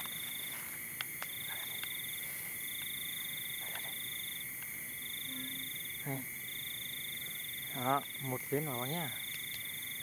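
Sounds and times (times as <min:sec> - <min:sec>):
insects and frogs droning: 0:00.0 - 0:10.0.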